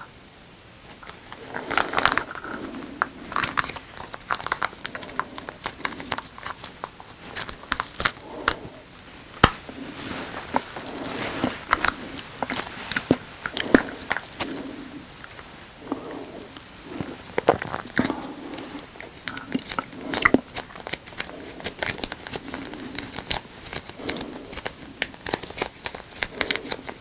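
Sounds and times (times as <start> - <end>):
plastic packaging crinkling: 1.0 - 27.0.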